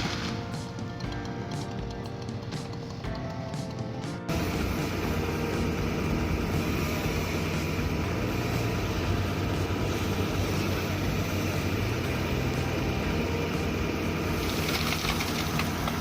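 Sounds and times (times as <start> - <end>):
motor engine droning: 0.0 - 16.0.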